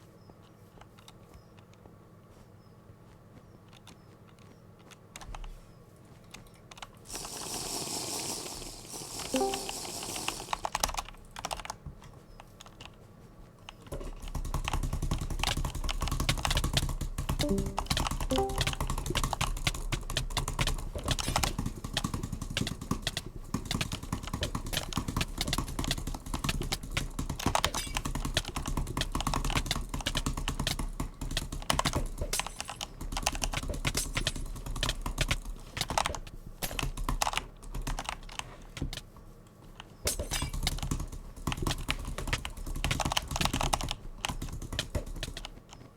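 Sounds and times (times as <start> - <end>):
fidget toy clicking and clacking: 6.3 - 11.8, 13.6 - 39.1, 39.8 - 45.9.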